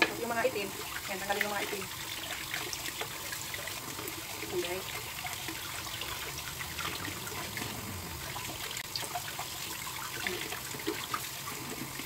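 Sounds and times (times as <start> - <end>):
small water splashes: 0.0 - 12.0
tap water running into bowl: 0.0 - 12.0.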